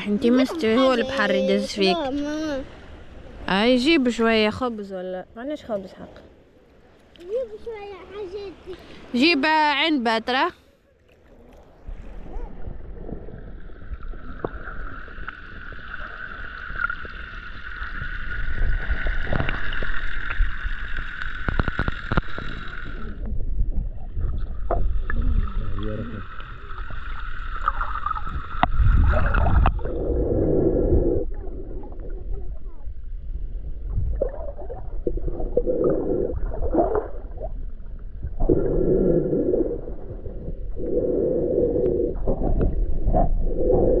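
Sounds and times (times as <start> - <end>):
muffled underwater sloshing: 6.2 - 44.0.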